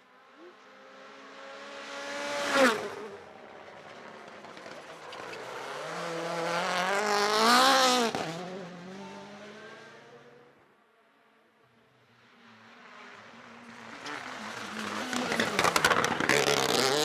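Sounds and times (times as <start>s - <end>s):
rally car passing at speed: 0.2s - 10.7s, 11.8s - 17.0s.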